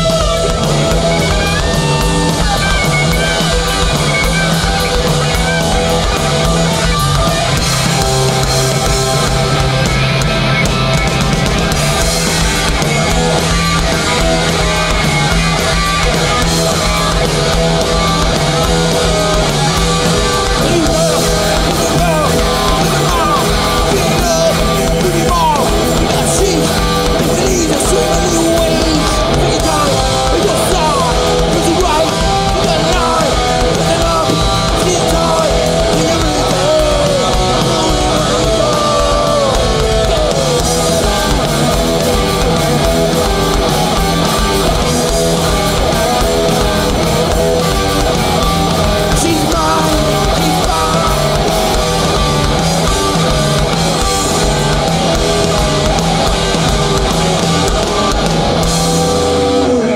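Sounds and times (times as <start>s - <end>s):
thrash metal band playing live: 0.0s - 59.9s.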